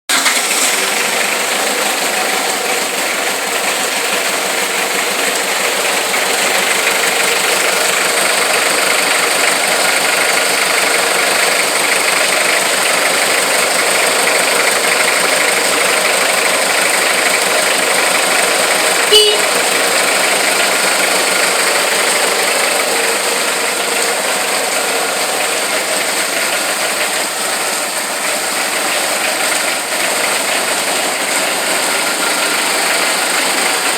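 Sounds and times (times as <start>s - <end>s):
tractor engine idling: 0.0s - 33.9s.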